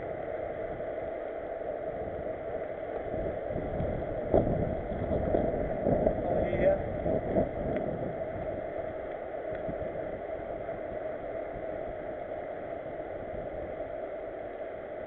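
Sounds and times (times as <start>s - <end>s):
tyres rolling on tarmac: 0.0s - 13.0s
wind over microphone: 0.0s - 15.0s.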